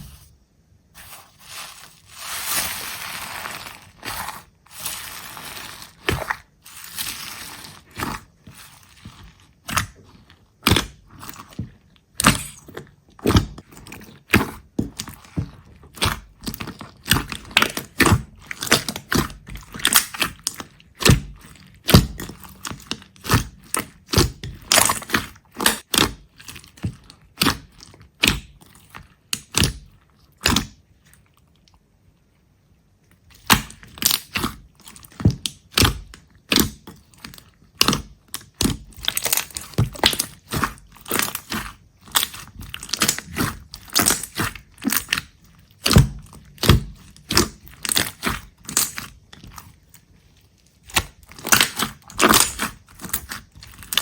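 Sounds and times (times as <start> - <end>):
sharp cracks and crunches: 1.1 - 30.8, 33.3 - 54.0.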